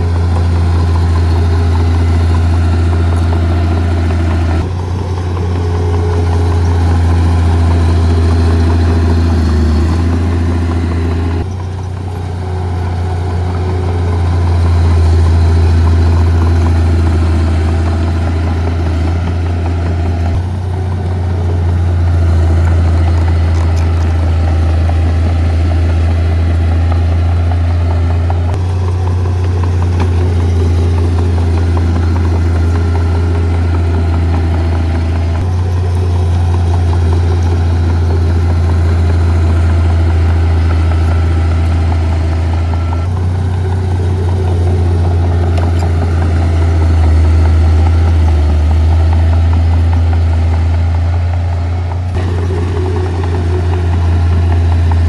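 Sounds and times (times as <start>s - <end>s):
heavy diesel engine humming: 0.0s - 55.0s.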